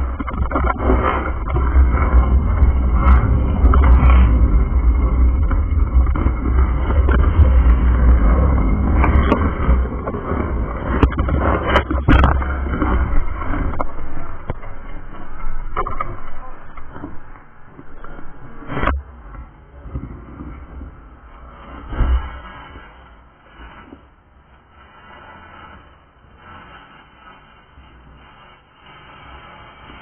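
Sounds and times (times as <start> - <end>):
bicycle tyres on concrete: 0.0 - 30.0
wind rumbling on microphone: 0.0 - 30.0.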